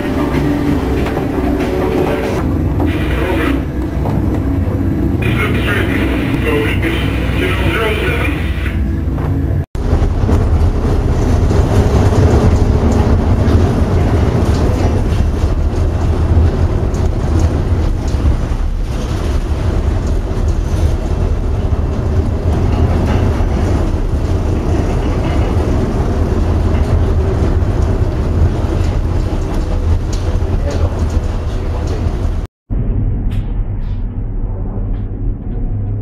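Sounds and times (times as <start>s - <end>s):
wind and breaking waves rumbling: 0.0s - 36.0s.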